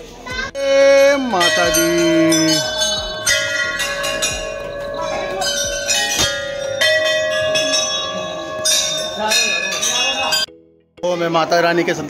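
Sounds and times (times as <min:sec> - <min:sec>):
brass bells ringing: 0:00.6 - 0:10.5.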